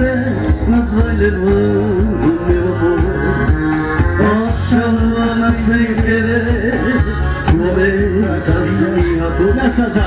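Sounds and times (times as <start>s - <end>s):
organ-like keyboard melody: 0.0s - 10.0s.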